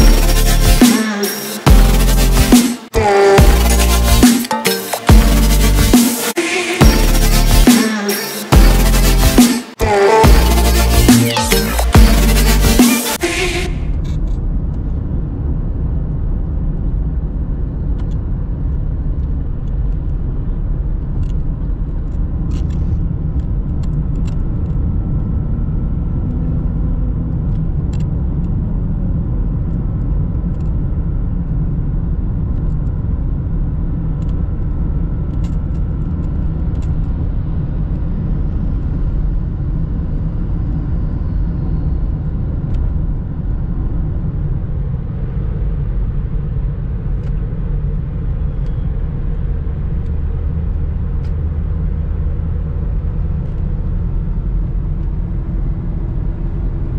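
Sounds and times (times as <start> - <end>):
car cabin road rumble: 8.6 - 56.9.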